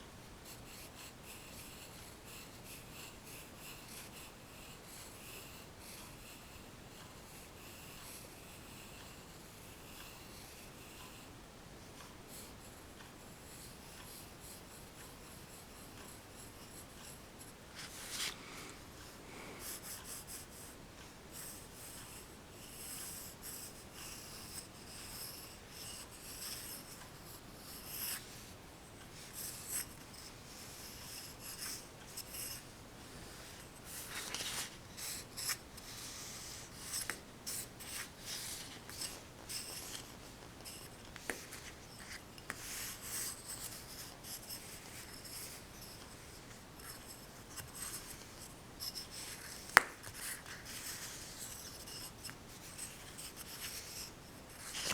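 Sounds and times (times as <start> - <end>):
pencil scratching on paper: 0.4 - 11.3, 12.3 - 18.3, 19.6 - 32.7, 33.5 - 54.9.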